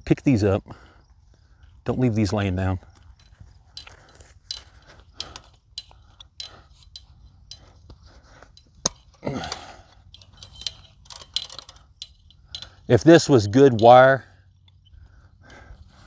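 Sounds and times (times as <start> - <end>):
metallic clicks of pliers and wire: 2.8 - 16.0.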